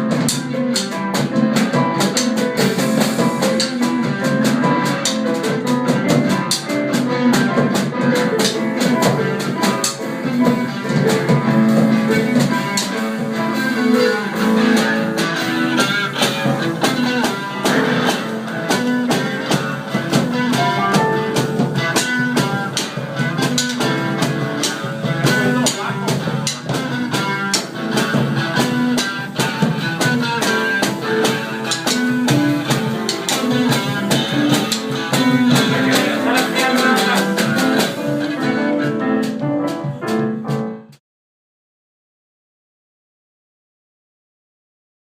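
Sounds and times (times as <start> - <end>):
band playing instrumental music: 0.0 - 41.0
drums and cymbals: 0.0 - 41.0
guitar: 0.0 - 41.0.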